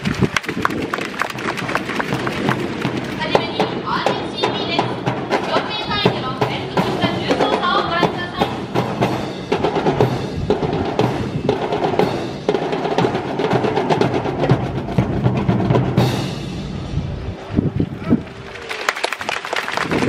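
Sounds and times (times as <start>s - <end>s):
drum-led music: 0.0s - 17.4s.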